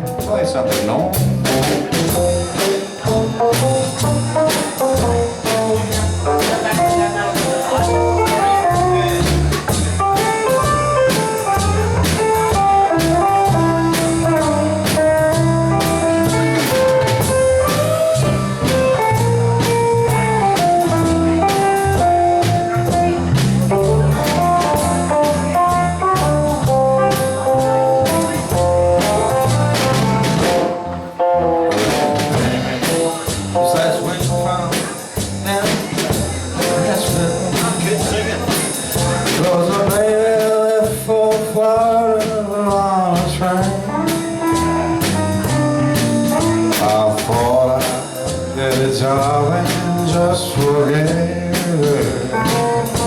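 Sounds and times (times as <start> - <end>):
band playing country music: 0.0 - 53.0
held lead melody notes: 0.0 - 53.0
steady drum beat: 0.0 - 53.0.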